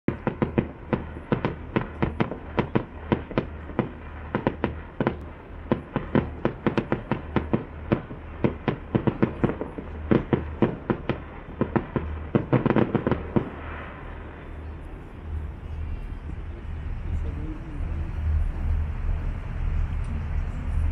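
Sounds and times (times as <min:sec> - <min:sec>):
fireworks bursting and crackling: 0:00.1 - 0:20.9
low rumble: 0:00.1 - 0:20.9.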